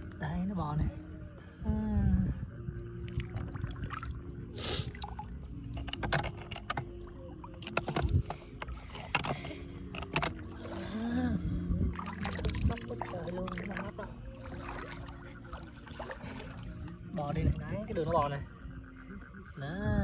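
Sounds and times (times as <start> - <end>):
lake water sloshing and splashing: 3.0 - 19.8.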